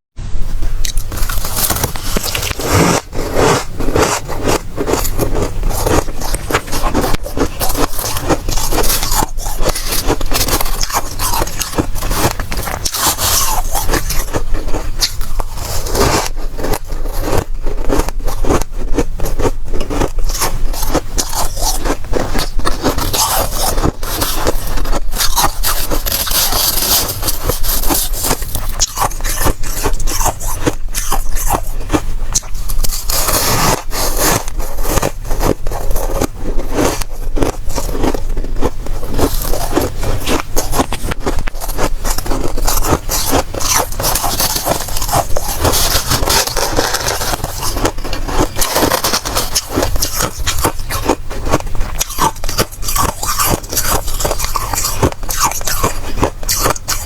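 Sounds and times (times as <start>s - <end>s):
crunching of frost being chewed: 0.8s - 57.0s.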